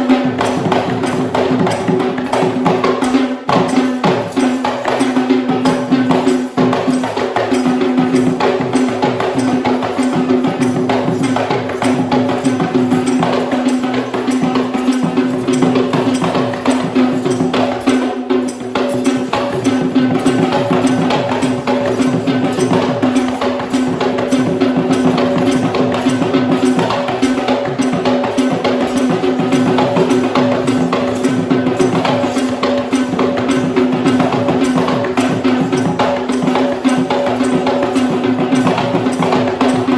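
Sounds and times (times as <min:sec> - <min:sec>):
traditional drums fast rhythm: 0:00.0 - 0:39.9.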